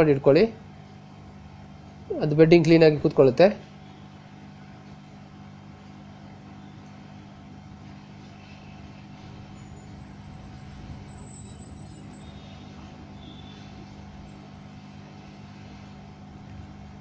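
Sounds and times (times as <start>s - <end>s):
hot-air blower humming and hissing: 0.0s - 17.0s.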